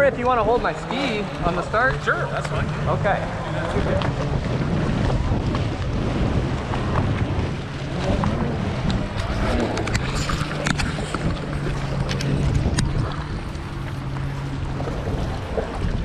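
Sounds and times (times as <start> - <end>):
jet ski engines idling: 0.0 - 16.0
water washing around hulls: 0.0 - 16.0
wind buffeting microphone: 0.0 - 16.0.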